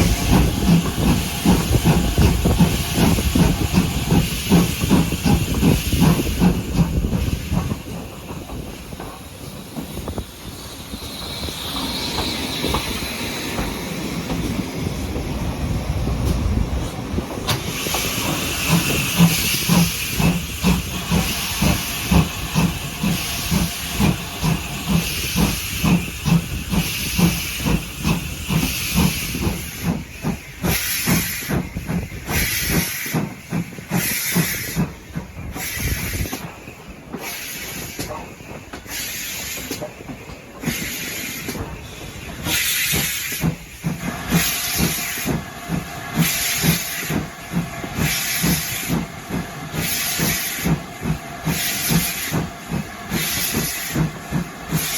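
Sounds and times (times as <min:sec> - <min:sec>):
hiss of steam: 0:00.0 - 0:54.9
steam locomotive exhaust beats: 0:00.0 - 0:54.9.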